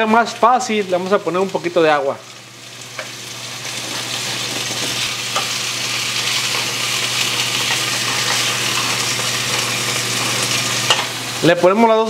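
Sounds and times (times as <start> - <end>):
meat sizzling in oil: 0.0 - 11.7.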